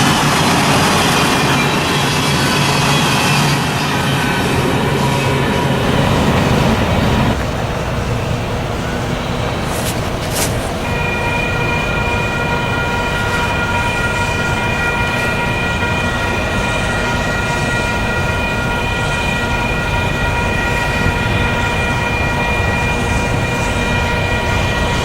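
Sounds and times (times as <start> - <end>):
freight train rumbling: 0.0 - 25.0.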